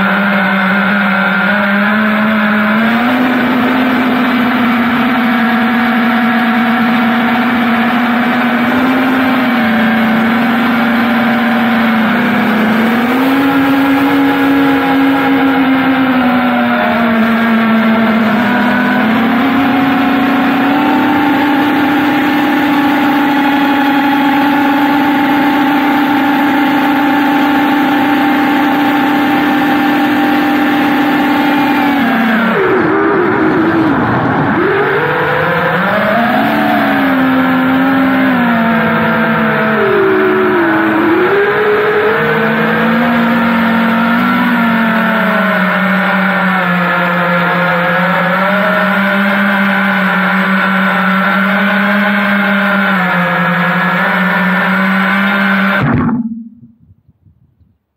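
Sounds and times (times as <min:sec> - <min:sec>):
quadcopter motors whining: 0:00.0 - 0:56.7.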